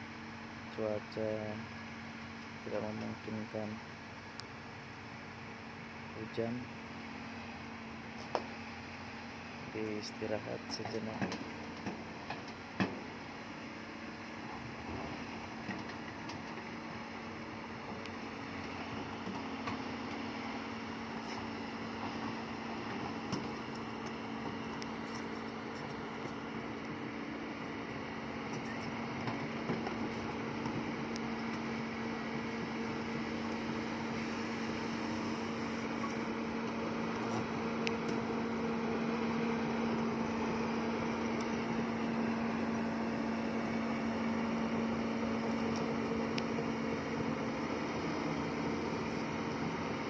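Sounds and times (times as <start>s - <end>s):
excavator diesel engine running: 0.1s - 50.0s.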